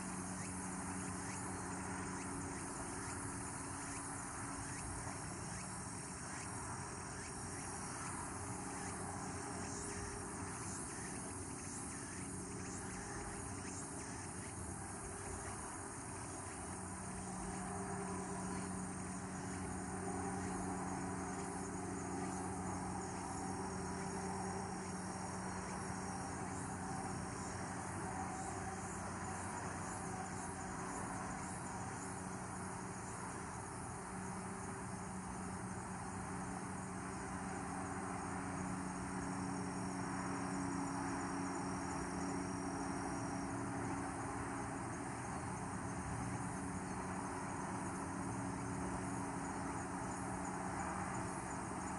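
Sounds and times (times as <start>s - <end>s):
insects singing: 0.0s - 51.9s
steady low hum: 0.0s - 51.9s.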